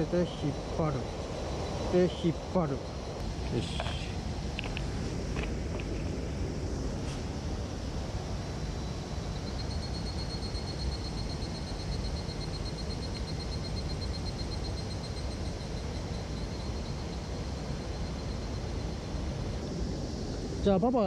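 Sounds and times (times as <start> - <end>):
cicada pulsing call: 0.0 - 21.0.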